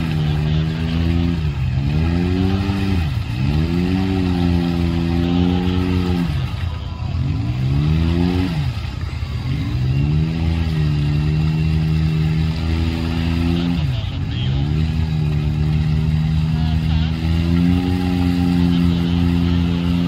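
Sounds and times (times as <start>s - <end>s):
vehicle engine revving hard: 0.0s - 20.0s.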